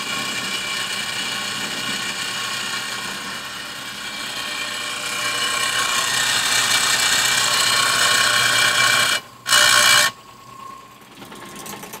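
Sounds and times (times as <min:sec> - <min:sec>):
power shear running with whine: 0:00.0 - 0:10.3.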